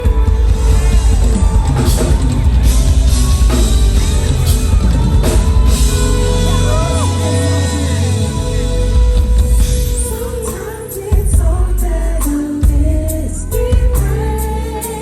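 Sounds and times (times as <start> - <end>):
live rnb band music: 0.0 - 15.0
person singing: 0.0 - 15.0.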